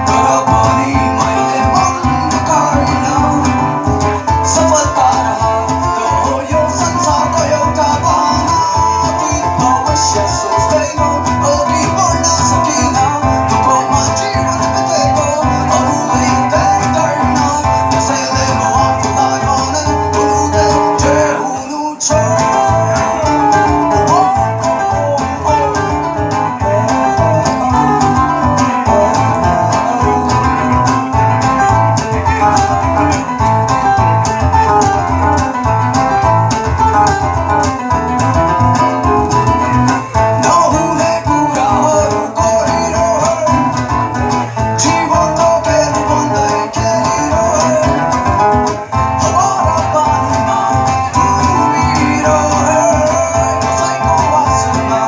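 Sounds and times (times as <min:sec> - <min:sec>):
electric guitars: 0:00.0 - 0:55.0
person singing: 0:00.0 - 0:55.0
steady drum beat: 0:00.0 - 0:55.0.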